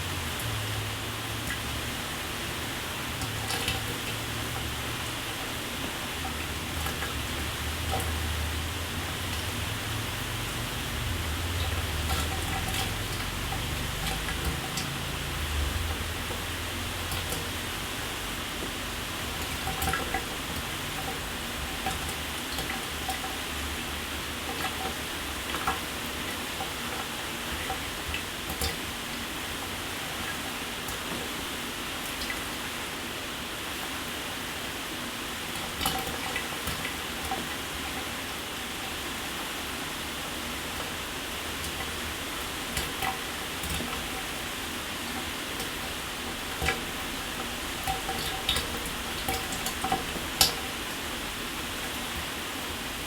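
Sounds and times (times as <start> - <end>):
water spatters and drips: 0.1 - 32.7, 35.5 - 38.7, 40.7 - 52.8.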